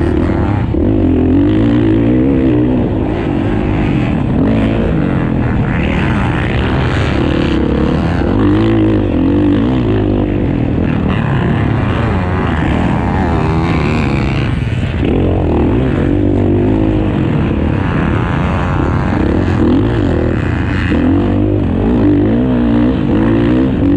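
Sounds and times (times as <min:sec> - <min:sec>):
motocross engines revving: 0:00.0 - 0:23.9.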